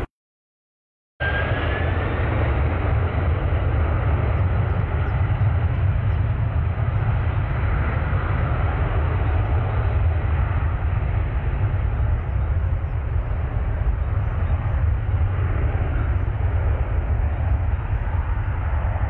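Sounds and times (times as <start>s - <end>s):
jet engines rumbling: 1.2s - 19.0s.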